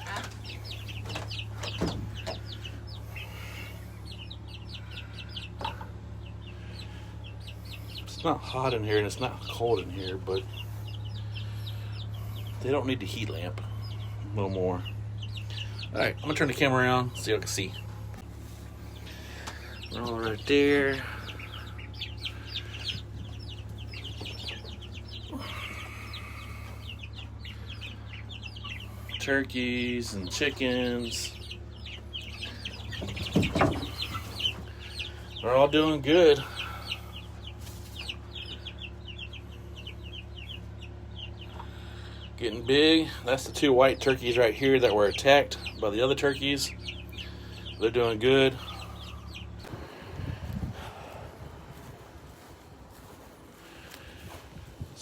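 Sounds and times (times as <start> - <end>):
chicks peeping: 0.0 - 55.0
low hum: 0.0 - 55.0.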